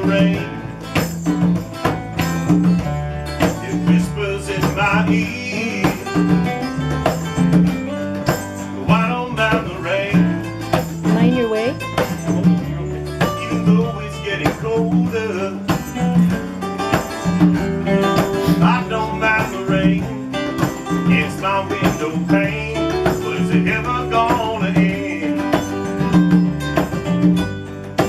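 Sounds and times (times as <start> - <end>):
band playing country music: 0.0 - 28.0.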